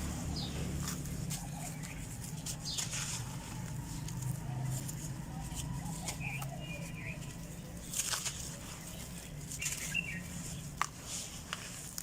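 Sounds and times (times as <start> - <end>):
dirt clumps crumbling: 0.0 - 12.0
low steady hum: 0.0 - 12.0.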